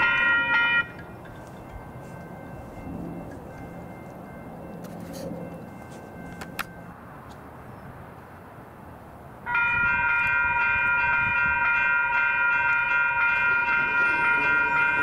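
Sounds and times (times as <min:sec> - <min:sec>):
low street background: 0:00.0 - 0:15.0
railroad crossing warning bells: 0:00.0 - 0:15.0.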